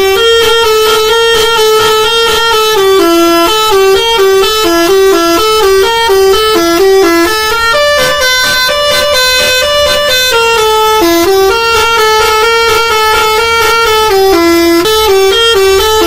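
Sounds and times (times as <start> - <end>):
buzzy horn-like tune: 0.0 - 16.0.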